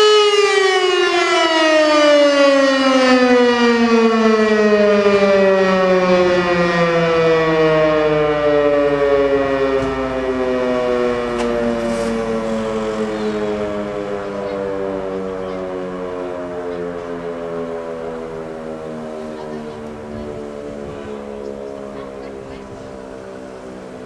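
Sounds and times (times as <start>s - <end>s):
electric siren winding down: 0.0s - 24.0s.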